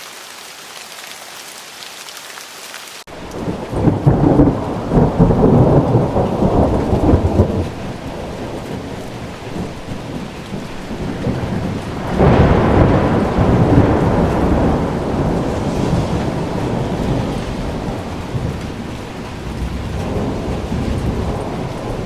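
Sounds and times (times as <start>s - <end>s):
heavy rain: 0.0s - 22.0s
thunder rumbling: 3.1s - 22.0s.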